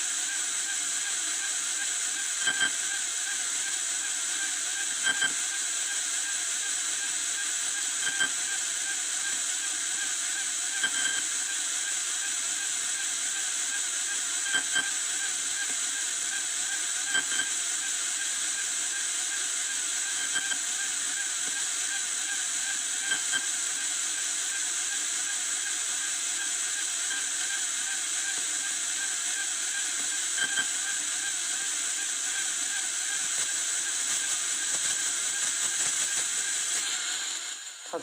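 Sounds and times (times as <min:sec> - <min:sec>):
electronic hiss: 0:00.0 - 0:38.0.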